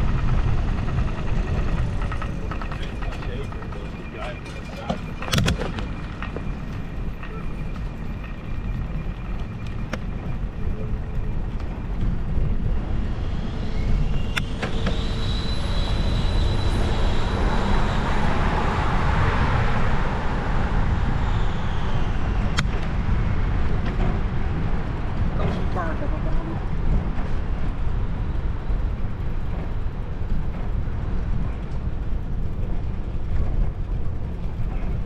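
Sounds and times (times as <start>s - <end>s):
high whine of passing vehicle: 0.0s - 35.0s
low rumble: 0.0s - 35.0s
traffic noise: 0.0s - 35.0s.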